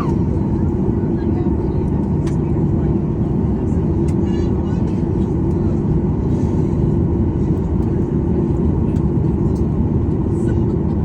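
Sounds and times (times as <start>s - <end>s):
air conditioning hum: 0.0s - 11.0s
jet engines idling: 0.0s - 11.0s.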